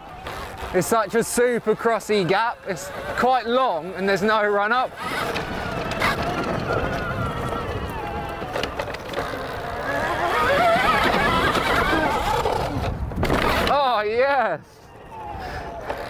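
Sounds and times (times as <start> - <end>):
electric motorbike motor whining: 0.0 - 16.0.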